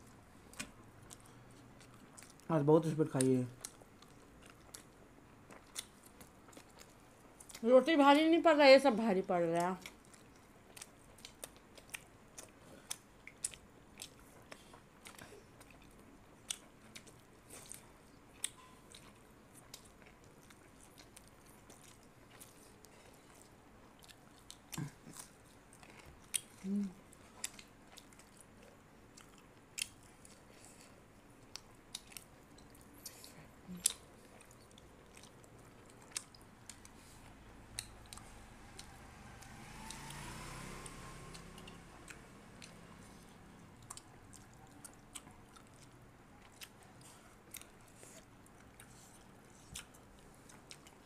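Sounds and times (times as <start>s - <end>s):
chewing food: 0.0s - 8.2s, 9.4s - 51.0s.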